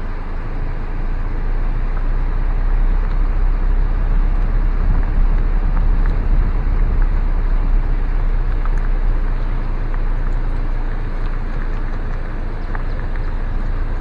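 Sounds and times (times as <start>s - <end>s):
car rolling slowly from inside: 0.0s - 14.0s.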